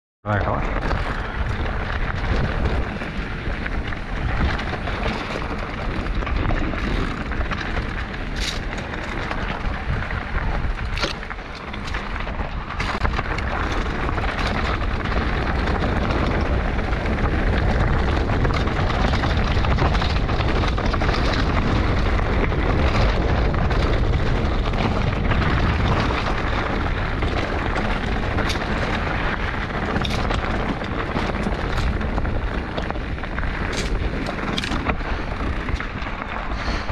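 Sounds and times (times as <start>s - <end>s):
bike tyres rumbling on stony dirt: 0.2s - 36.9s.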